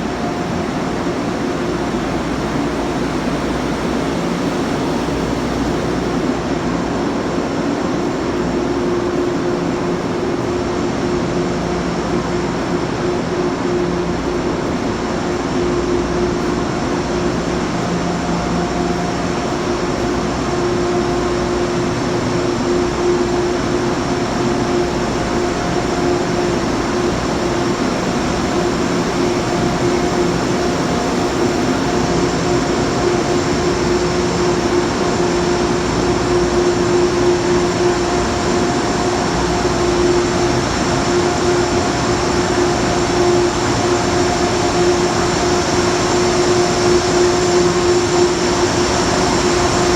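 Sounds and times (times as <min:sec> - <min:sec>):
faint high whine: 0:00.0 - 0:49.9
train mechanical hum: 0:00.0 - 0:49.9.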